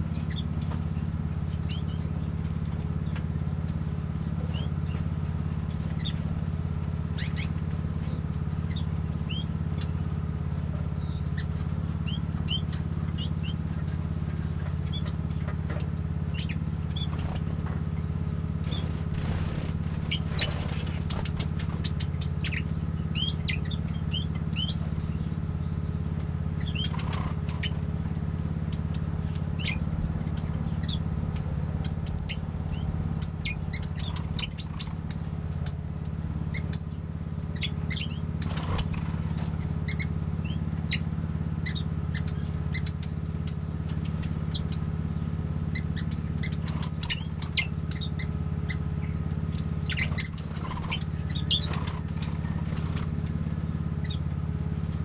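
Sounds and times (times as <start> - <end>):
small birds chirping: 0.0 - 55.0
steady low hum: 0.0 - 55.0.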